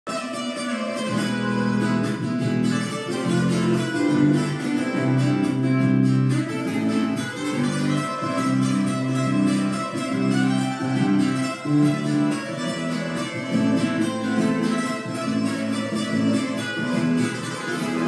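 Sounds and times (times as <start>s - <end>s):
guitar melody over held chords: 0.3s - 18.0s.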